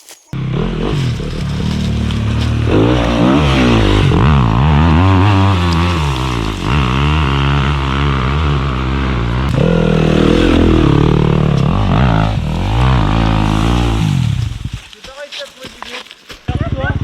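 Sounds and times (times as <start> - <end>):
dirt bike engine revving: 0.3 - 15.1.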